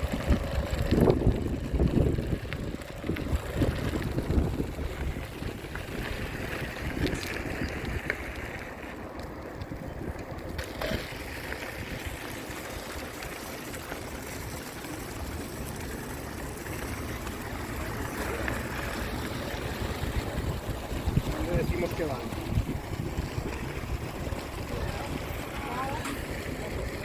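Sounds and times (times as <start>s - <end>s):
wind buffeting microphone: 0.0s - 13.2s, 17.8s - 27.0s.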